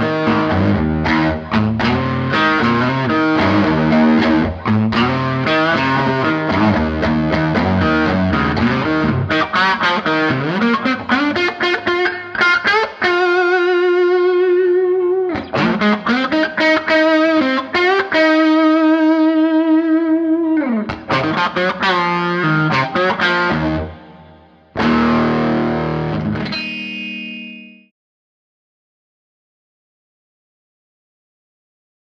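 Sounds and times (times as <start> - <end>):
overdriven electric guitar lead: 0.0 - 27.6.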